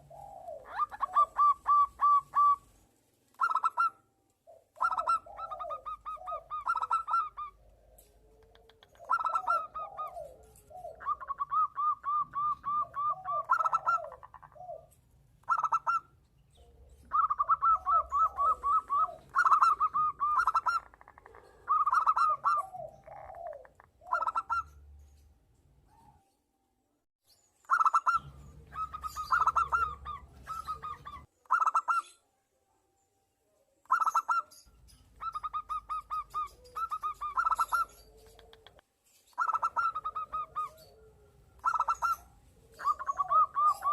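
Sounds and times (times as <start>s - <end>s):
doves trilled cooing: 0.0s - 25.2s, 27.6s - 32.2s, 33.8s - 43.9s.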